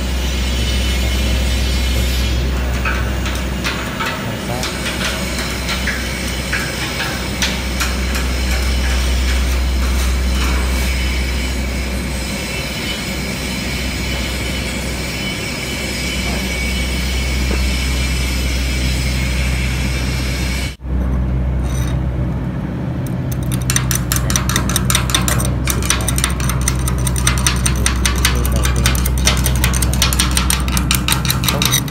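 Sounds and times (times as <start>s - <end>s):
workshop hum and rumble: 0.0s - 31.9s.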